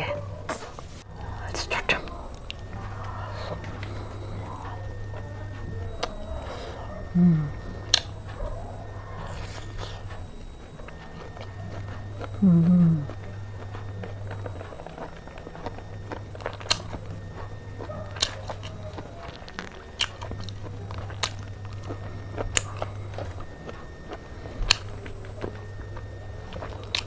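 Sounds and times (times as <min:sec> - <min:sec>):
crunchy bite: 0:00.5 - 0:27.0
person chewing: 0:00.5 - 0:27.0.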